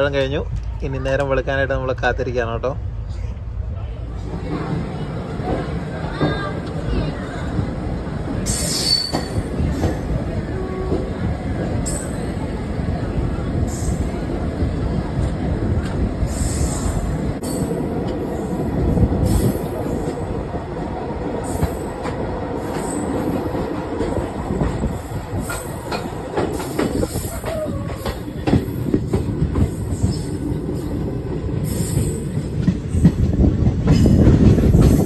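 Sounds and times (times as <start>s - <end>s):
train clicks and rattles: 0.0s - 2.2s, 4.3s - 35.0s
train wheels rumbling on rails: 0.0s - 35.0s.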